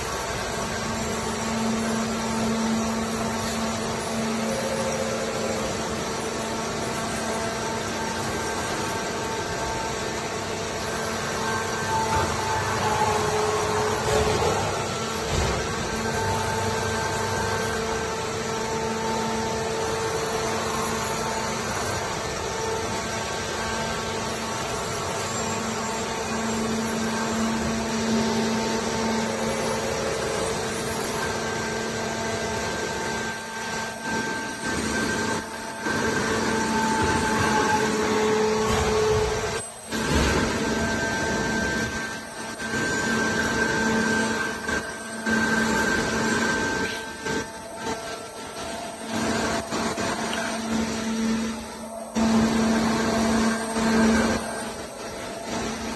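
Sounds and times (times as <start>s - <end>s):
baling machine drone: 0.0s - 55.9s
humming tones: 0.0s - 55.9s.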